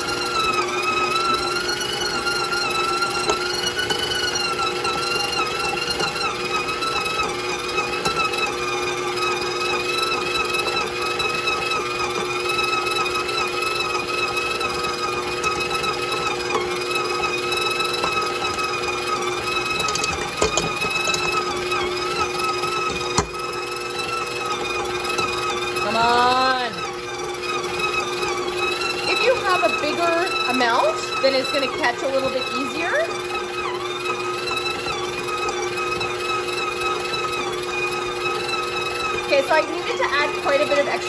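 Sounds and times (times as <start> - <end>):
stand mixer whining: 0.0 - 41.0.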